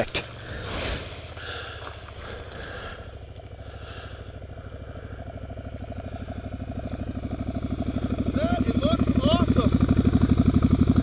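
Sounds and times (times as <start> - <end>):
motorcycle engine low revs: 0.0 - 11.0.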